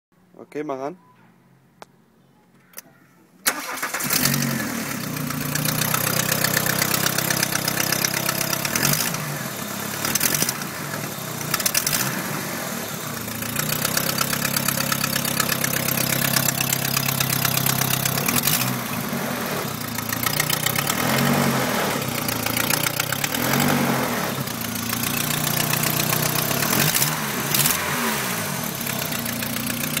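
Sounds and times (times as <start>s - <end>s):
engine starting and rattling: 3.4s - 12.4s, 13.0s - 30.0s.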